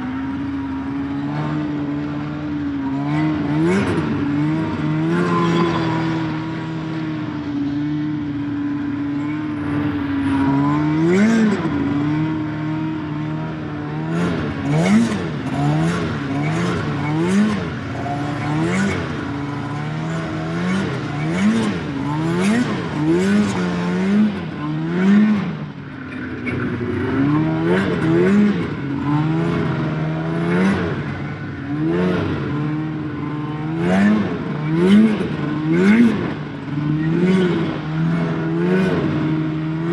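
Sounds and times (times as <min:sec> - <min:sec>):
snowmobile engine revving: 0:00.0 - 0:08.2, 0:08.9 - 0:25.6, 0:26.2 - 0:39.9.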